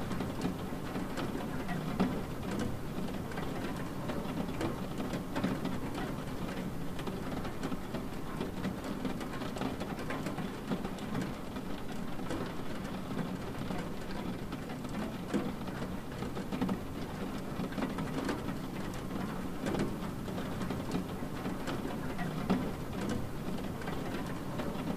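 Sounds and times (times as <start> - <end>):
light taps of raindrops: 0.0 - 24.9
steady rain falling: 0.0 - 24.9.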